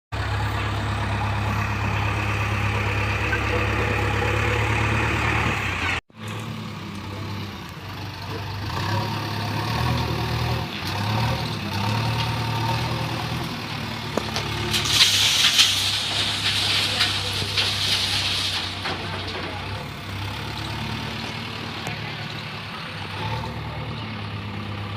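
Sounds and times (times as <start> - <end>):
diesel machinery engine running: 0.1 - 24.9.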